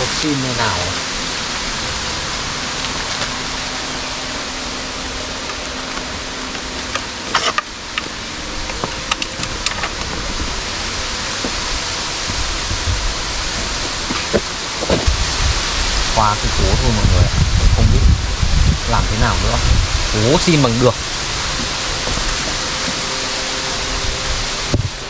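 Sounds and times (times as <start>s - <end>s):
steady rushing hiss: 0.0s - 25.0s.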